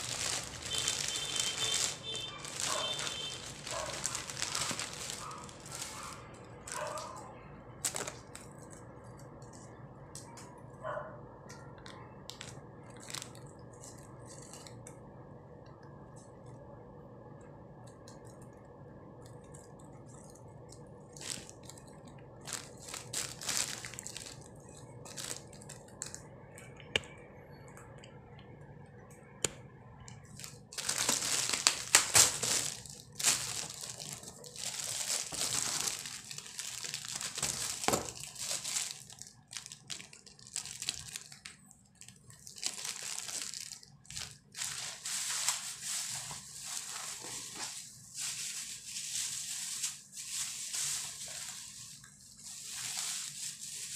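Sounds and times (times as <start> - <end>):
plastic bags crinkling: 0.0 - 10.4, 11.7 - 15.0, 19.2 - 26.9, 30.0 - 53.9
faint steady hum: 0.0 - 53.9.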